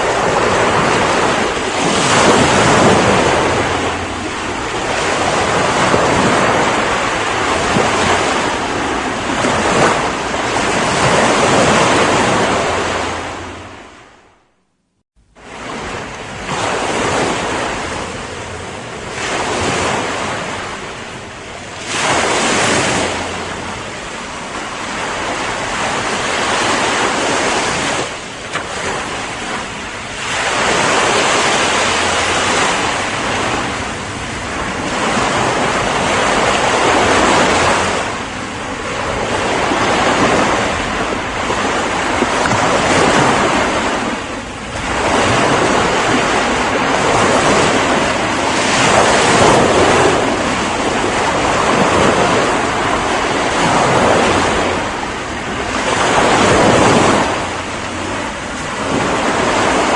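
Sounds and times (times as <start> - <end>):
ocean waves breaking: 0.0 - 14.5, 15.2 - 59.9.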